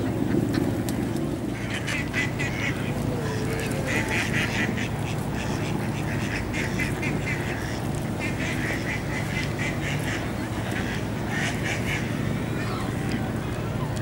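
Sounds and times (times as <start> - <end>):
ducks quacking: 0.0 - 0.8, 1.5 - 13.2.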